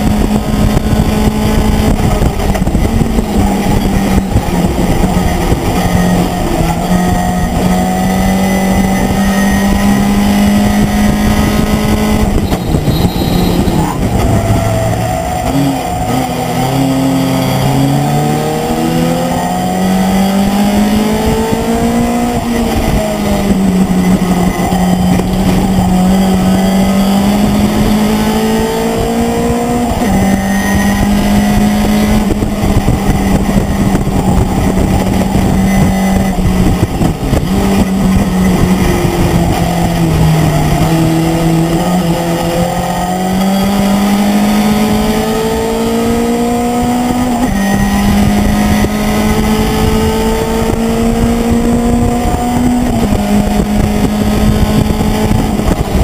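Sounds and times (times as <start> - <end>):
truck engine pulling hard: 0.0 - 56.0
wind and road noise: 0.0 - 56.0.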